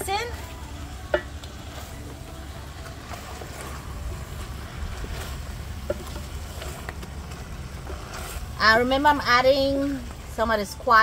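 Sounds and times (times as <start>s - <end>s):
spoon stirring curry in pot: 0.6s - 10.3s.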